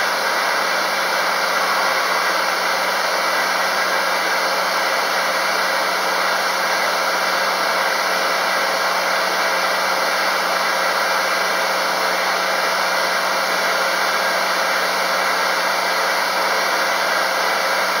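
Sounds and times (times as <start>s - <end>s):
circular sawmill whirring: 0.0s - 18.0s.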